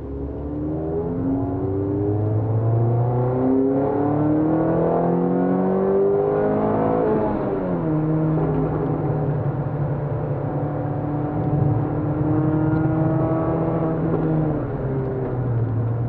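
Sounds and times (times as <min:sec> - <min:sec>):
car engine from inside cabin: 0:00.0 - 0:16.0.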